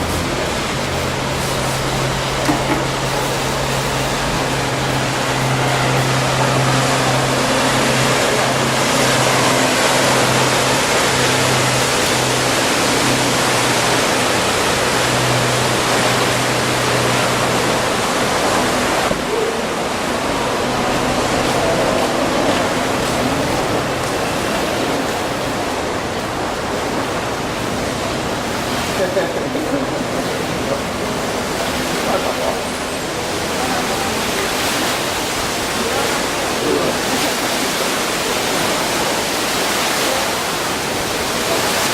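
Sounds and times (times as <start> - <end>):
boat engine hum: 0.0 - 41.9
rushing water and wind: 0.0 - 41.9.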